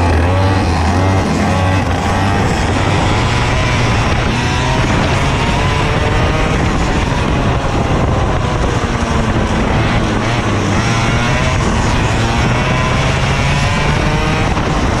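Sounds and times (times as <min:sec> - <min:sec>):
kart engine running hard: 0:00.0 - 0:15.0
wind and road noise: 0:00.0 - 0:15.0.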